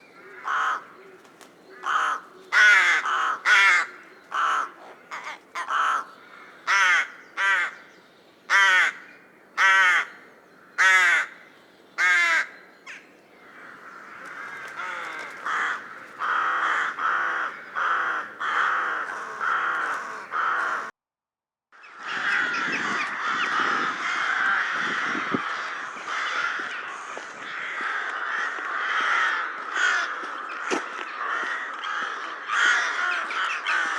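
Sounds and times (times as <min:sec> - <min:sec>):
rooks cawing: 0:00.0 - 0:20.9, 0:23.2 - 0:33.9.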